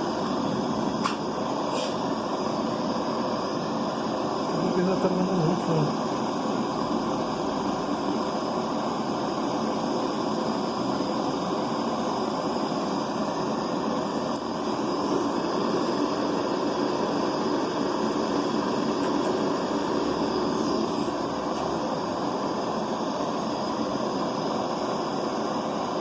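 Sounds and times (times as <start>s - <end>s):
butane torch roaring: 0.0s - 26.0s.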